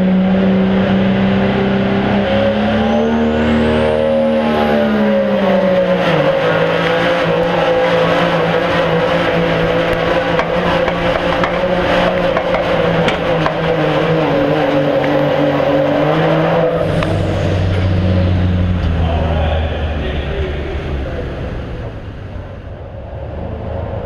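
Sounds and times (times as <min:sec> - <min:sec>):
diesel truck engine under load: 0:00.0 - 0:24.0.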